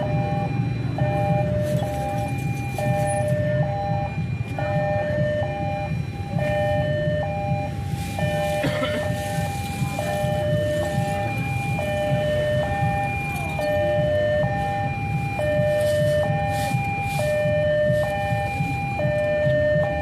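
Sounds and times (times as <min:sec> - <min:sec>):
two-tone crossing warning alarm: 0:00.0 - 0:20.0
vehicle engines rumbling: 0:00.0 - 0:20.0.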